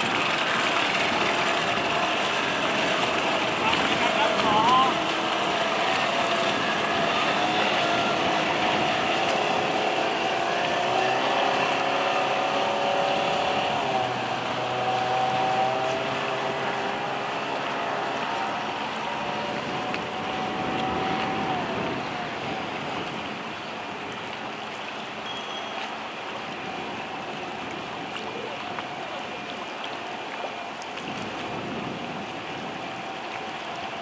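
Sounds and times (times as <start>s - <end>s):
choppy water: 0.0s - 34.0s
distant outboard motor droning: 0.0s - 34.0s.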